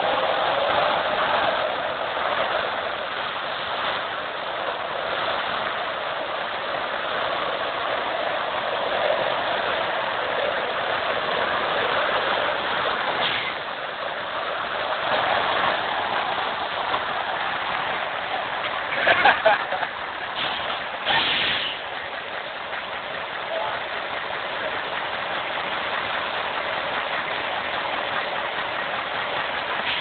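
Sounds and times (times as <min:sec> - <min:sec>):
diesel truck engine running: 0:00.0 - 0:30.0
water splashing around wheels: 0:00.0 - 0:30.0.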